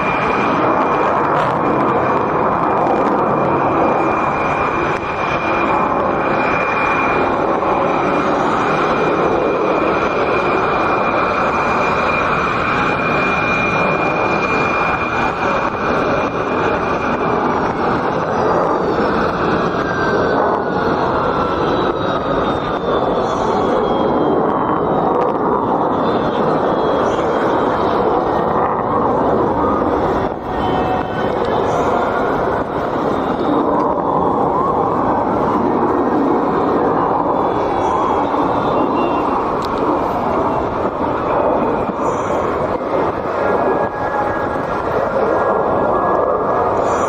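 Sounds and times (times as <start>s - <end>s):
high jet whine: 0.0s - 47.0s
jet engines roaring: 0.0s - 47.0s.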